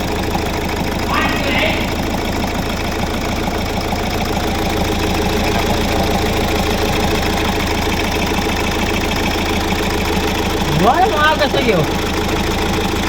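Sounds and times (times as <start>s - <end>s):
diesel engine idling with clatter: 0.0s - 13.0s.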